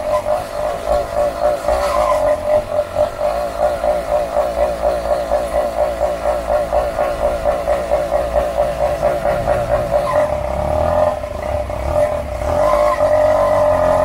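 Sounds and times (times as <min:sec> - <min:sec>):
two-stroke engine at low revs: 0:00.0 - 0:14.0.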